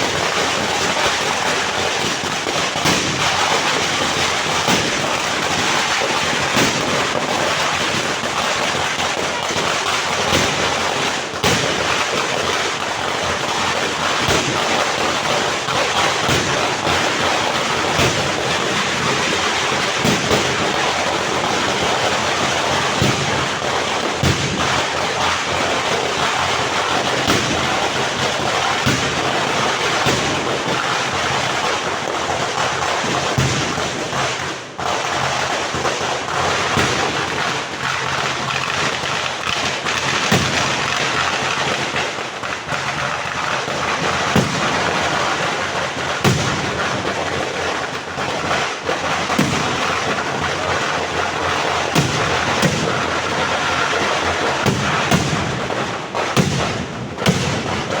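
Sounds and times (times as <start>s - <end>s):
firecrackers going off: 0.0s - 58.0s.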